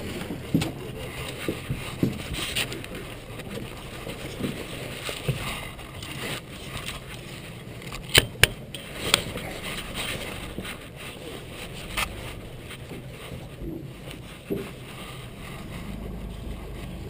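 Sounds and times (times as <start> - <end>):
clothing rubbing against camera: 0.0 - 17.0.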